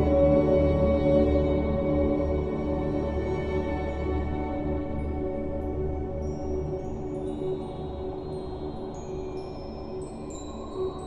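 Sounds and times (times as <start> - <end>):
calm music with bell-like notes: 0.0 - 11.0.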